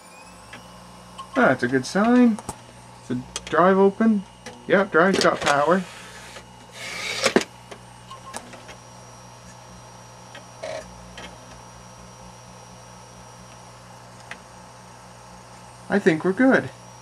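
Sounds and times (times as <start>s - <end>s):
computer fans humming: 0.0s - 17.0s.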